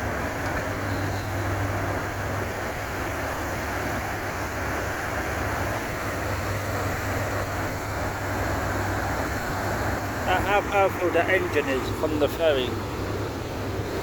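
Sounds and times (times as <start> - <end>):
ferry engines humming: 0.0 - 14.0.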